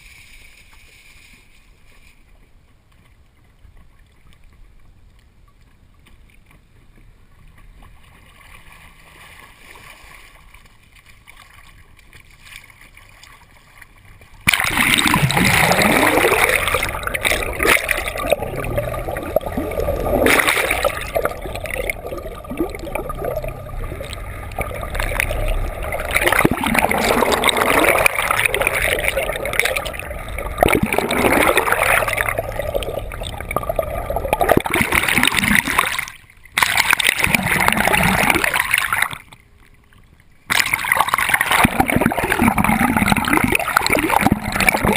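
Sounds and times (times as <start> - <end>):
water splashing and gurgling: 0.0 - 44.9.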